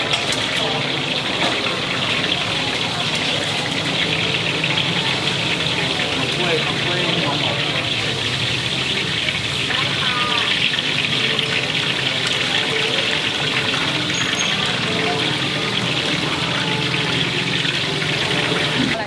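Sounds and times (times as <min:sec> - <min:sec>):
faint voices: 0:00.0 - 0:19.0
food sizzling in hot oil: 0:00.0 - 0:19.0.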